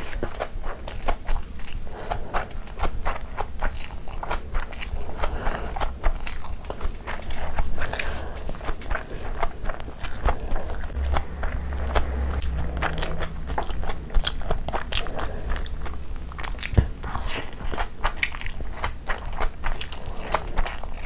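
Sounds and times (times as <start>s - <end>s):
chewing and biting food: 0.0s - 21.0s.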